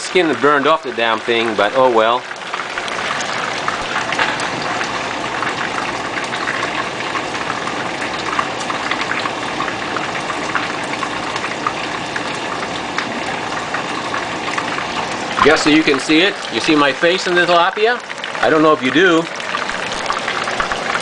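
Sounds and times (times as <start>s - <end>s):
fish deep-frying in hot oil: 0.0s - 21.0s.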